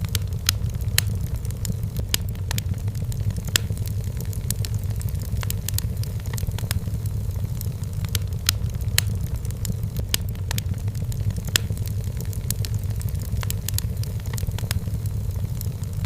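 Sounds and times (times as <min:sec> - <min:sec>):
firewood crackling and popping: 0:00.0 - 0:16.0
flames rumbling: 0:00.0 - 0:16.0.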